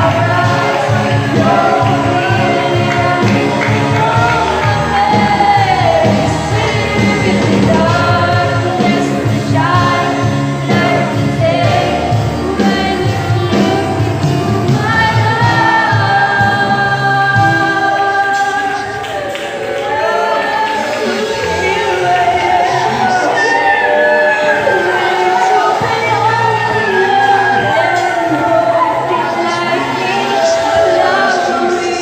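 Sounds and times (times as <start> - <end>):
accompanying music: 0.0 - 32.0
youth choir singing gospel: 0.0 - 32.0.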